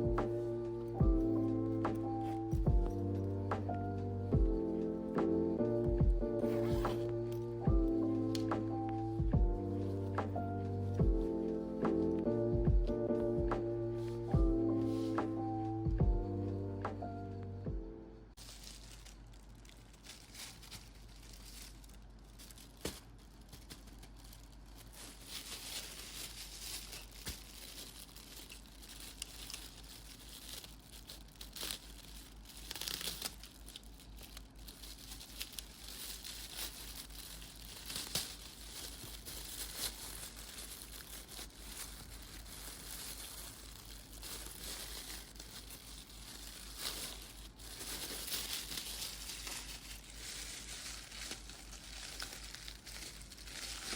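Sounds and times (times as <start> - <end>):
plastic packaging crinkling: 0.0 - 15.8, 18.3 - 53.9.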